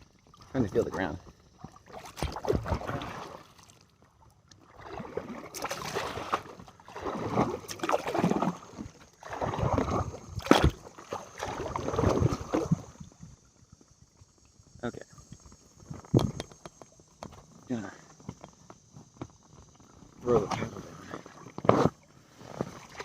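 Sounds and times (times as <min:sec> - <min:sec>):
water sloshing around kayak: 0:00.0 - 0:23.0.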